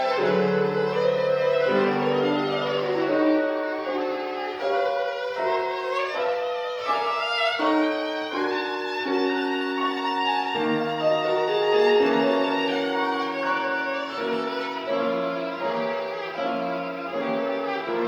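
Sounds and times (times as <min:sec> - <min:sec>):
piano accompaniment: 0:00.0 - 0:18.0
solo violin melody: 0:00.0 - 0:18.0.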